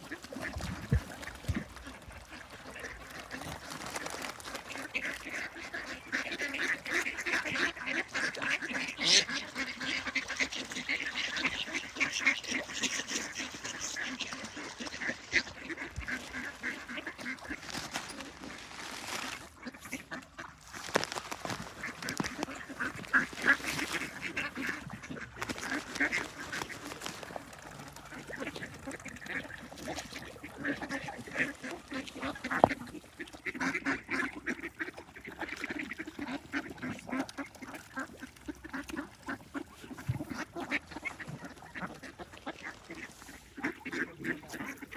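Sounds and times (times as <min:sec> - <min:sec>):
ducks quacking: 0:00.0 - 0:44.9.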